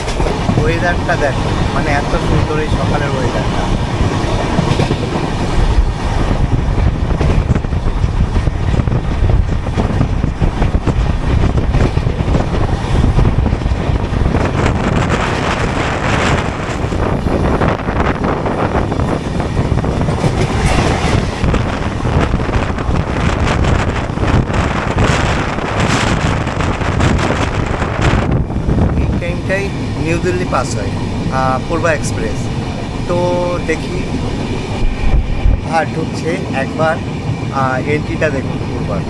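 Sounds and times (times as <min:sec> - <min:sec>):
train wheels rumbling on rails: 0:00.0 - 0:39.0
wind buffeting microphone: 0:00.0 - 0:39.0.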